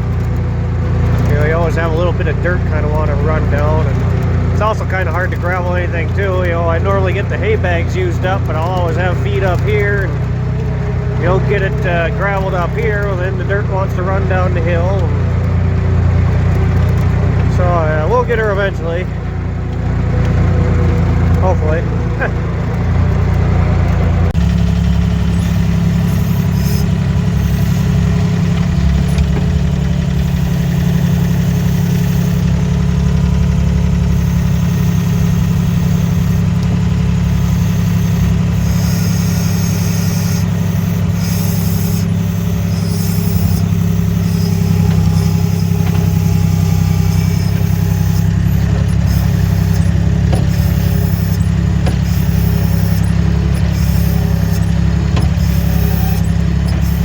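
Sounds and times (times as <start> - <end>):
loader engine droning: 0.0 - 57.0.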